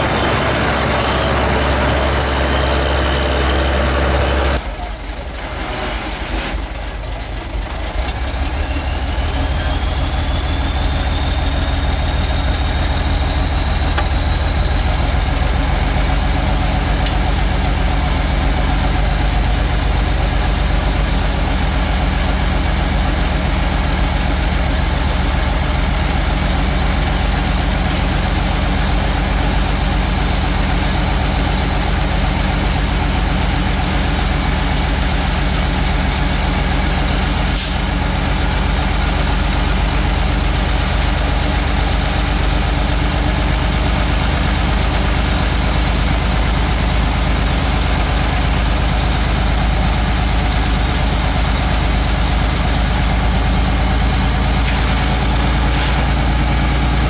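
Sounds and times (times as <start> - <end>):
heavy machine engine running: 0.0 - 57.0
high engine whine: 0.0 - 57.0.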